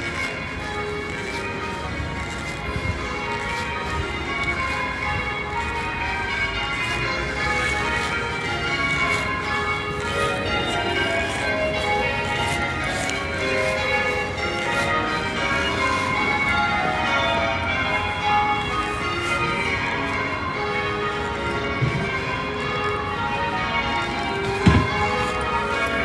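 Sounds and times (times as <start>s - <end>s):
church bells ringing a peal: 0.0s - 26.0s.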